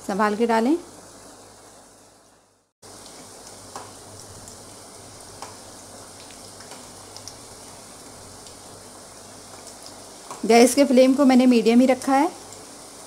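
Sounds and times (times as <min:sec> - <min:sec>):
bread frying in oil sizzling: 0:00.0 - 0:13.0.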